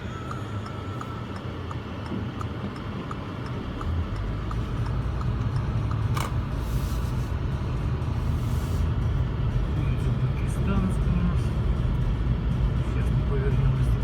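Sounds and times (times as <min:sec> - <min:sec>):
car engine and road rumble: 0:00.0 - 0:14.0
turn signal ticking: 0:00.0 - 0:14.0.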